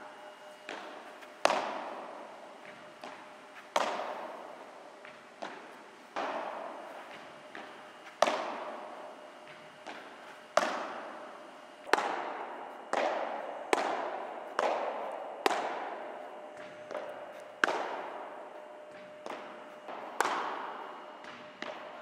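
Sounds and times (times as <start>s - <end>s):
padel ball hits echoing: 0.2s - 4.6s, 5.4s - 22.0s.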